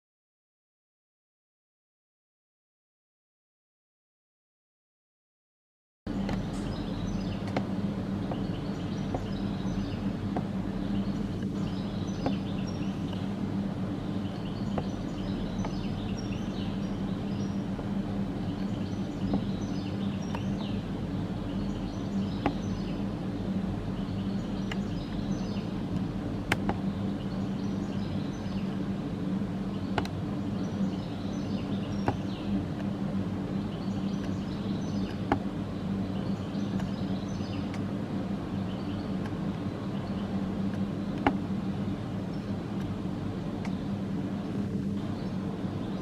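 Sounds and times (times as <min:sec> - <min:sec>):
small birds chirping: 0:06.1 - 0:46.0
steady low hum: 0:06.1 - 0:46.0.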